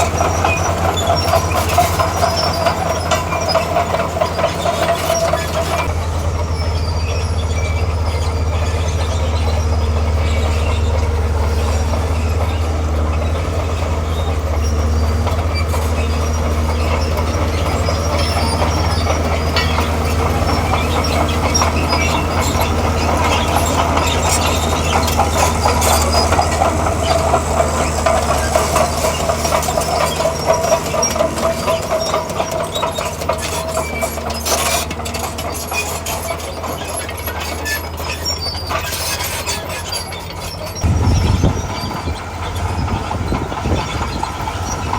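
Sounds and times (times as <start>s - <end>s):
diesel engine running: 0.0s - 44.9s
metallic clatter of crawler tracks: 0.0s - 44.9s.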